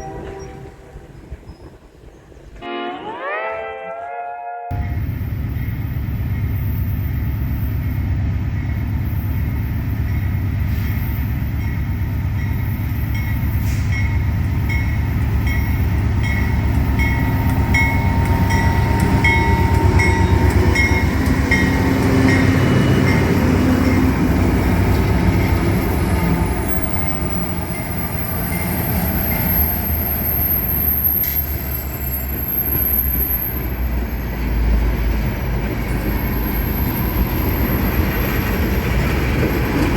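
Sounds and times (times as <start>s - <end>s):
diesel train engine rumble: 4.7s - 39.9s.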